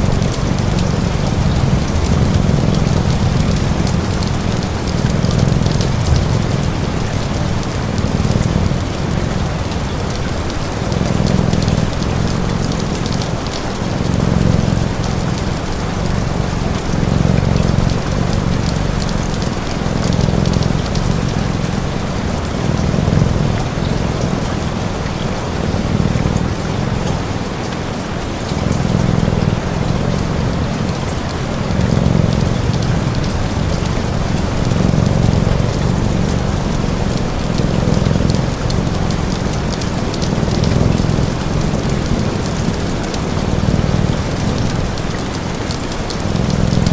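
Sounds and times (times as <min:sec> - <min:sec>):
cat purring: 0:00.0 - 0:46.9
steady rain falling: 0:00.0 - 0:46.9.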